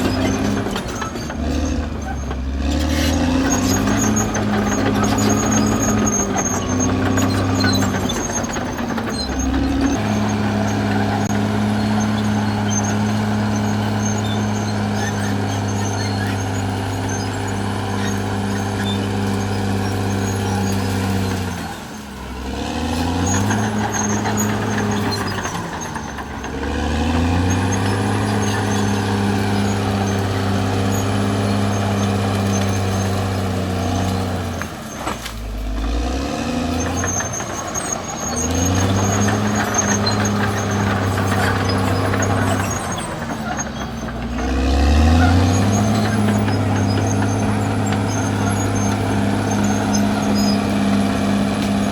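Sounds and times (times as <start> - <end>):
bulldozer diesel engine revving: 0.0 - 51.9.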